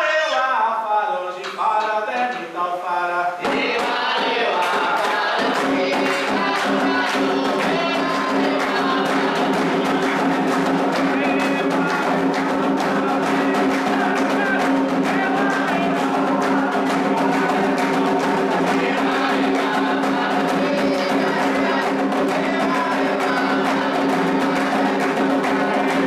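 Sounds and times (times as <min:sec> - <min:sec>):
people singing chants: 0:00.0 - 0:26.0
hand drums and percussion: 0:03.4 - 0:26.0.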